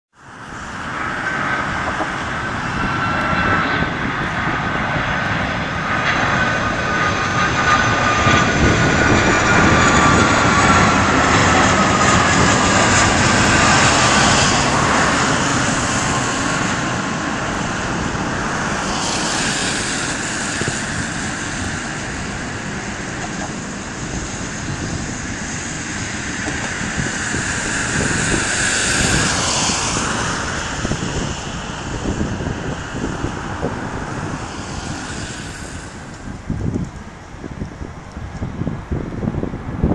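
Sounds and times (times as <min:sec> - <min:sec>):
jet engines roaring: 0:00.1 - 0:39.9
jet engine whine falling in pitch: 0:00.2 - 0:39.9.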